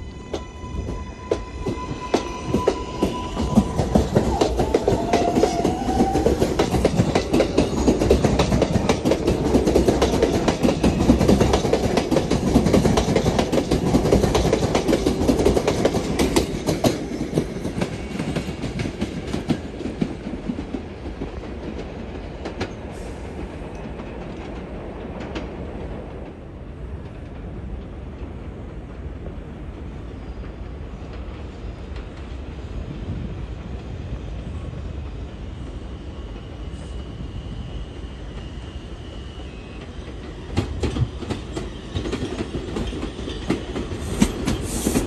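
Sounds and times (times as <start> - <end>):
subway train wheels clattering: 0.0 - 45.0.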